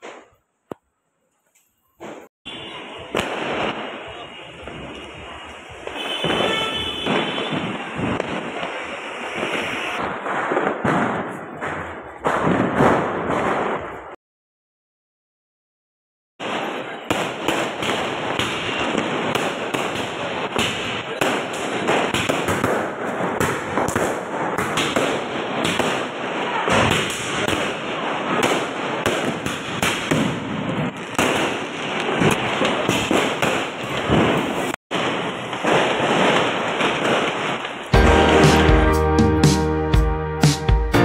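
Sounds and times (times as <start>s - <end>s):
firecrackers crackling and popping: 2.0s - 14.2s, 16.4s - 39.1s.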